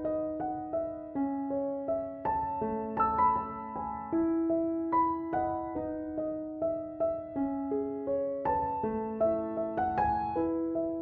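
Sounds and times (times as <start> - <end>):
slow keyboard melody: 0.0 - 11.0.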